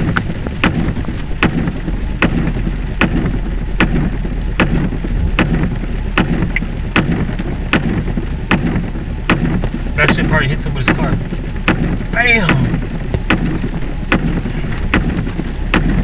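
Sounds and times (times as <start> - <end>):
rushing floodwater: 0.0 - 16.0
sharp repeating knock: 0.0 - 16.0.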